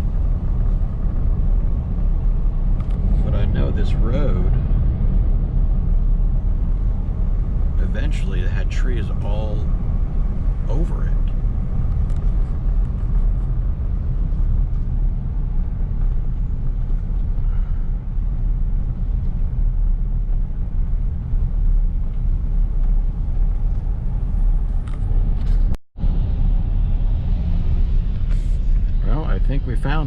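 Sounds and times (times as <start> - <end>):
road noise: 0.0 - 30.0
truck engine rumble: 0.0 - 30.0.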